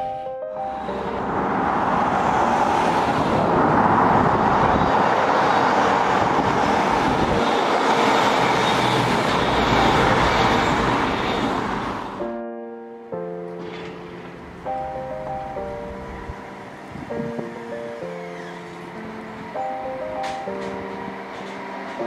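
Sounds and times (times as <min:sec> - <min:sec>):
diesel train passing: 0:00.0 - 0:12.4, 0:13.6 - 0:22.0.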